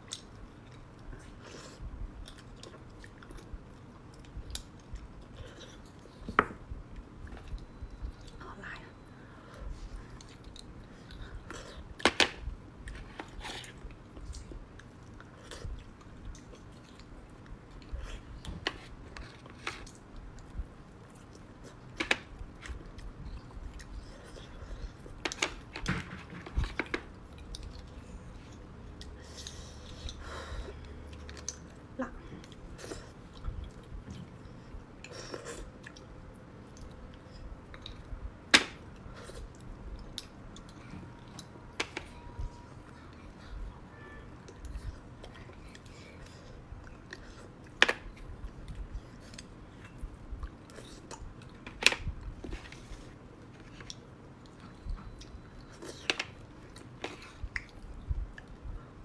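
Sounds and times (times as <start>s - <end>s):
chewing and mouth sounds: 0.0s - 8.4s, 9.7s - 25.7s, 30.8s - 38.2s, 38.8s - 41.6s, 44.4s - 59.0s.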